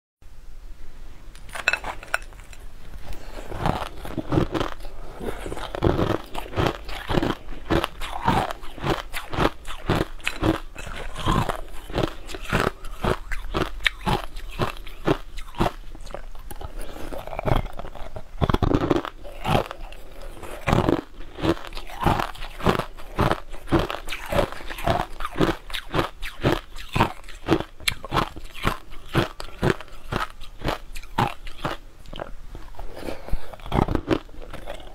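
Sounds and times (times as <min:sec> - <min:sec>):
person chewing crunchy ice: 0:01.4 - 0:34.9.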